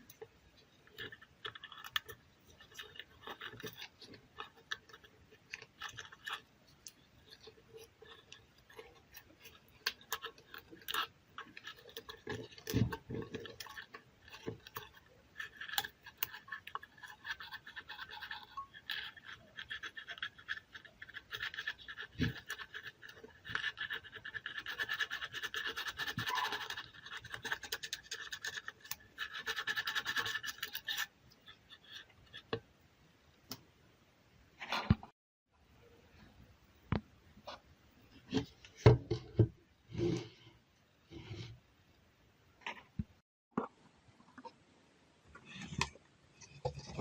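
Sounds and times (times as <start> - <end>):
scratching and scraping: 0.0 - 32.7, 37.4 - 41.6, 45.4 - 47.0.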